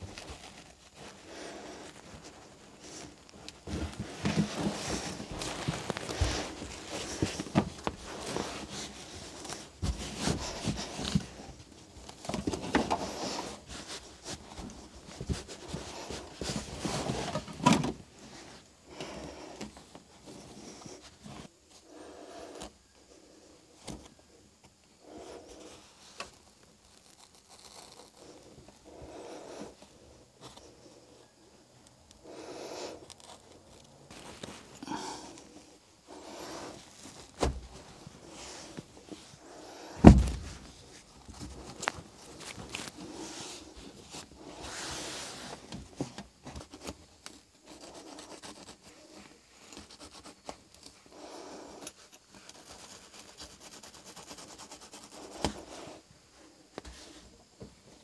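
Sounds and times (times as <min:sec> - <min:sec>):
carpet rustling and scraping: 0:00.0 - 0:58.0.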